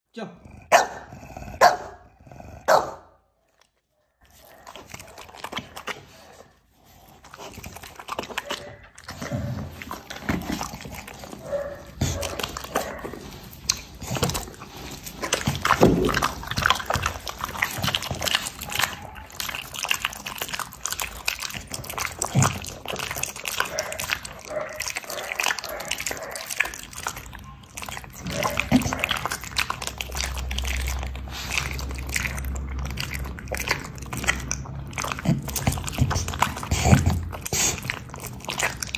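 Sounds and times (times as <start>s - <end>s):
dog chewing and lip-smacking: 0.4s - 38.9s.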